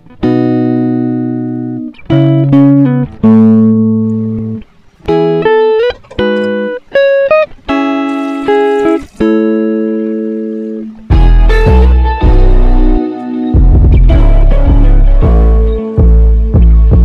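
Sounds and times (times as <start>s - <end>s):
plucked guitar chords: 0.0s - 17.0s.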